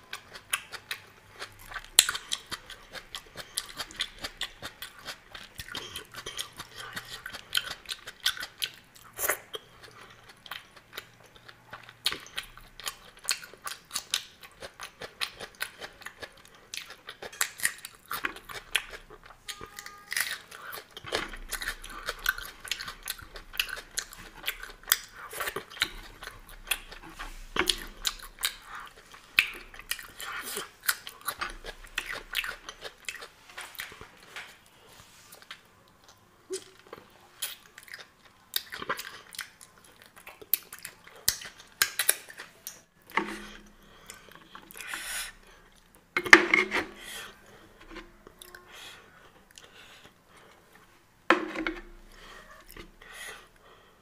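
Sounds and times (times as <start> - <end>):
chewing and crunching food: 0.0 - 51.0.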